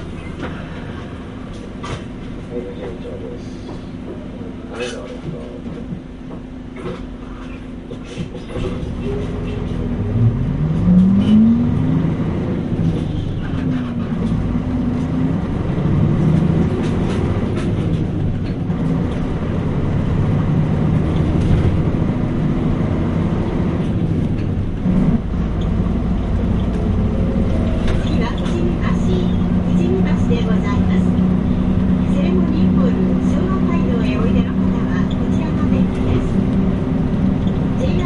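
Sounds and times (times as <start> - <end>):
road noise: 0.0 - 38.0
bus diesel engine revving: 6.8 - 38.0.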